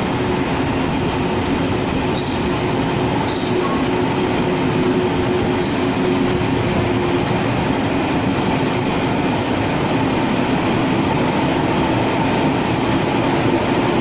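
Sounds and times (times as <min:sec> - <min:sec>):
train rumbling by: 0:00.0 - 0:14.0.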